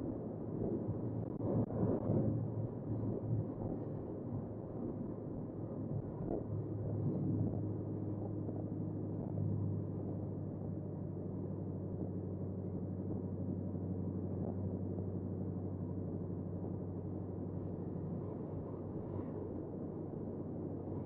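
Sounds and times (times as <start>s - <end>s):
car engine exhaust drone in cabin: 0.0s - 21.0s.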